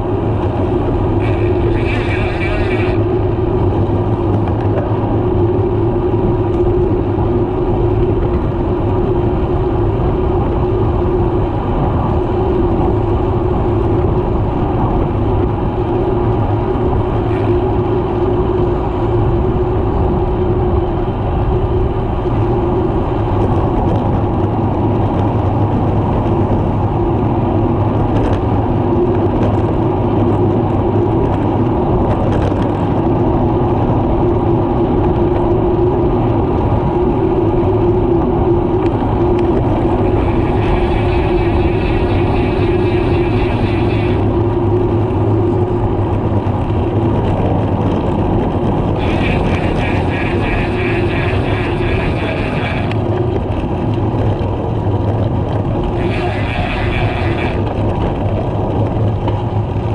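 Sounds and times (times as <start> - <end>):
low hum: 0.0 - 59.9
road noise: 0.0 - 59.9
wind rush: 0.0 - 59.9.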